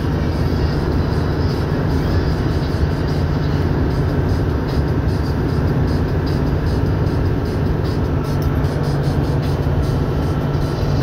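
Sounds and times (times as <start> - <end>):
minibus engine droning: 0.0 - 11.0
road noise: 0.0 - 11.0.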